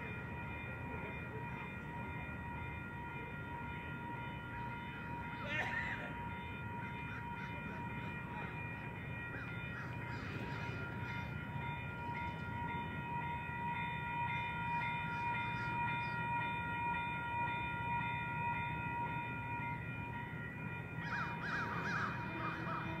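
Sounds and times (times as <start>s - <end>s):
freight train low rumble: 0.0s - 23.0s.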